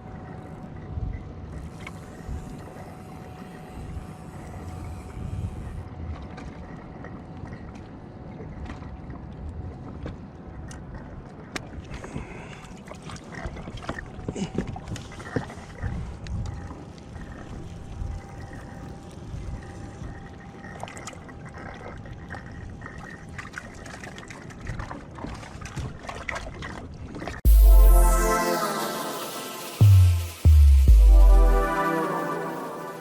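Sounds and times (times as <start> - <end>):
water lapping against a hull: 0.0 - 27.4.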